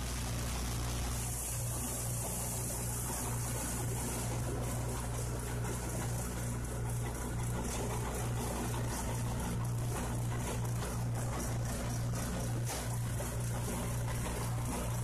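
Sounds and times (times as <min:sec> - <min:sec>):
machine hum: 0:00.0 - 0:15.0
wet slurry churning: 0:01.2 - 0:15.0.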